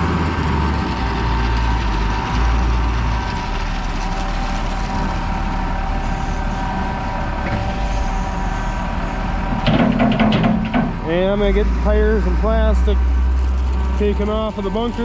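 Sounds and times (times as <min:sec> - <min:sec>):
diesel loader engine rumbling: 0:00.0 - 0:15.0
high machine whine: 0:00.0 - 0:15.0.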